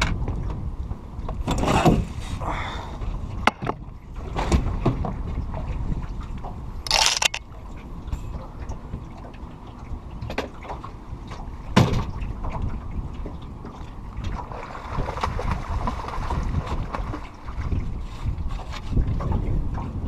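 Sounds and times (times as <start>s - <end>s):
wind on microphone: 0.0s - 9.1s, 12.0s - 20.0s
boat on water: 0.0s - 20.0s.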